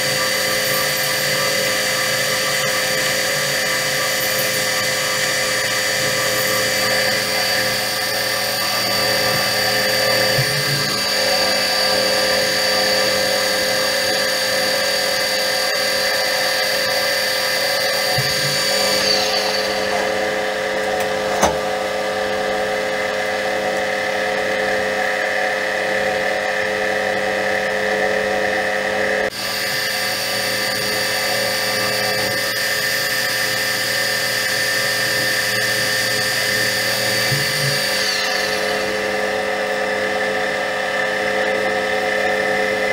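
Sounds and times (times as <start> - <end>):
high ringing cutting tone: 0.0 - 42.9
metal lathe whine: 0.0 - 42.9.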